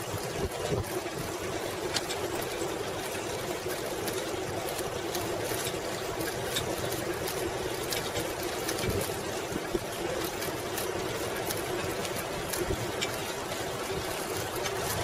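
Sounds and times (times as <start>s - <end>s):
bicycle rattles and clicks: 0.0s - 15.0s
bicycle tyres rolling on pavement: 0.0s - 15.0s.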